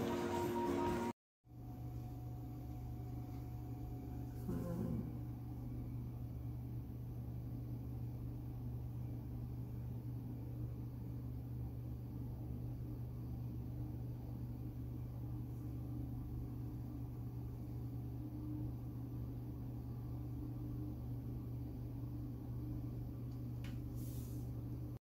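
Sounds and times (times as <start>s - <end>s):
appliance humming: 0.0s - 25.0s.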